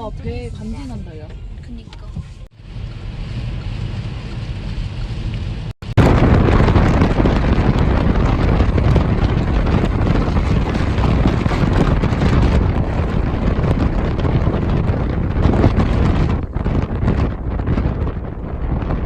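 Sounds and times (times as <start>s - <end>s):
wind buffeting microphone: 2.7s - 19.0s.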